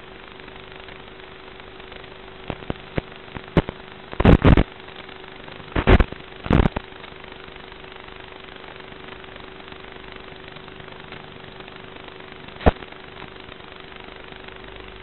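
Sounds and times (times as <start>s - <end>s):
static crackles and pops: 0.0s - 15.0s
static hiss: 0.0s - 15.0s.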